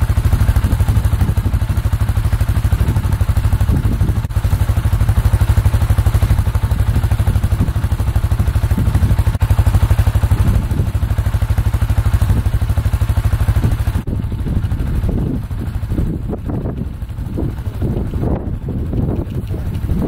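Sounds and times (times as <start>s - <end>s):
small engine idling: 0.0s - 20.0s.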